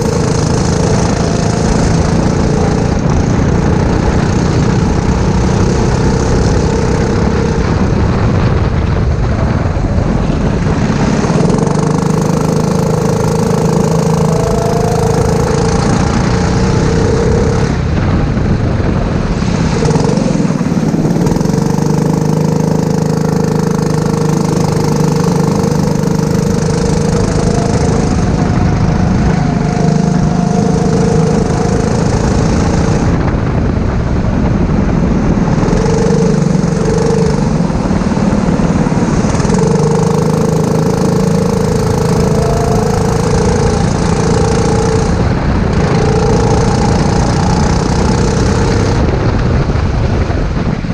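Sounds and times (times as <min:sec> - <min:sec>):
kart engine revving: 0:00.0 - 0:50.9.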